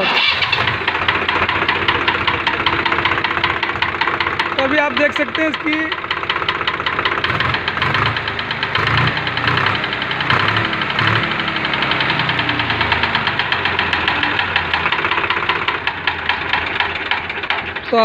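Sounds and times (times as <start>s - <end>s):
diesel engine knocking: 0.0s - 18.0s.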